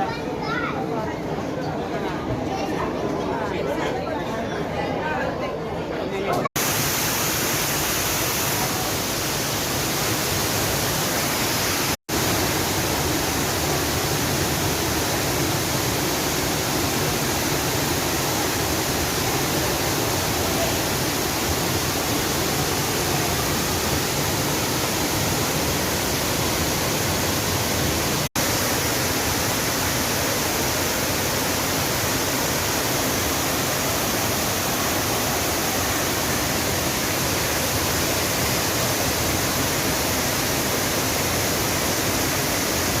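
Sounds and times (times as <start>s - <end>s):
falling water rushing: 6.6s - 43.0s.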